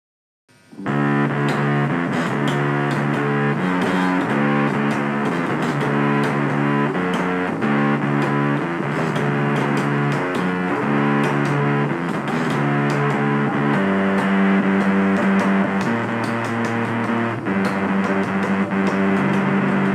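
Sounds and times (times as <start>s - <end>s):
bass: 0.5s - 19.9s
distorted electric guitar riff: 0.5s - 19.9s
drum hits: 1.4s - 19.9s.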